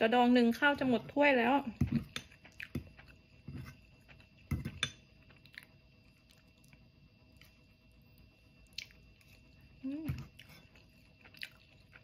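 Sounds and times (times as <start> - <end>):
faint steady hum: 0.0 - 12.0
soft chewing: 1.8 - 12.0.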